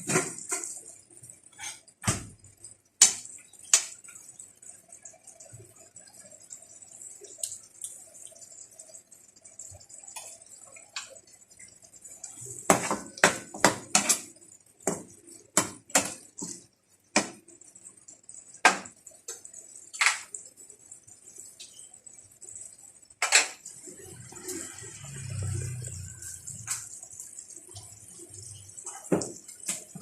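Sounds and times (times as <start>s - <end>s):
food simmering hiss: 0.0s - 30.0s.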